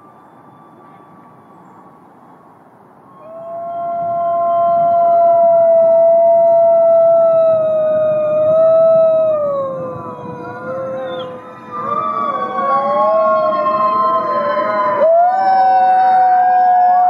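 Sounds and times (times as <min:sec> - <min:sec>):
wolves howling: 0:03.2 - 0:17.0.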